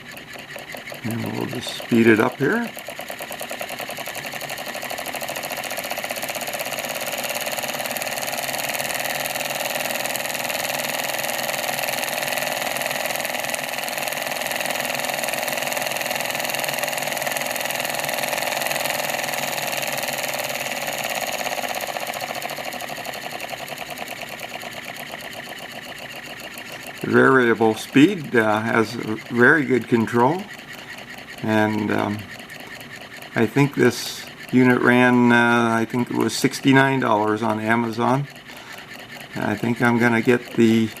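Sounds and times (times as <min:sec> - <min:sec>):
solenoid toy engine clattering: 0:00.0 - 0:41.0.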